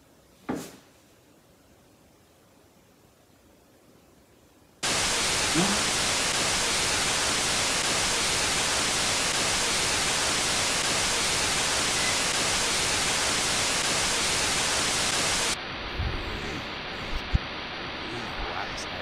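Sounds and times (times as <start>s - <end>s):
static hiss: 0.0s - 19.0s.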